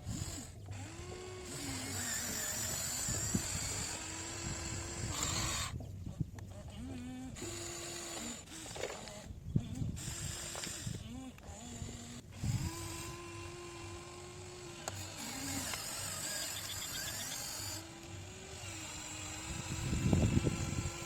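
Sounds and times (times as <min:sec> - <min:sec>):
electric motor and pump whine: 0:00.0 - 0:21.0.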